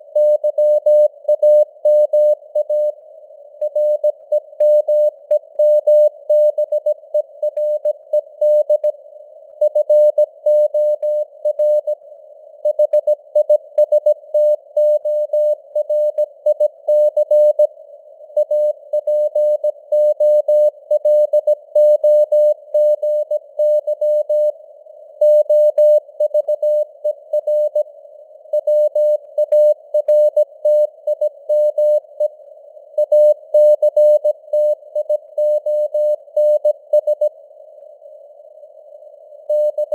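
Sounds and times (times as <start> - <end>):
receiver hiss: 0.0 - 39.9.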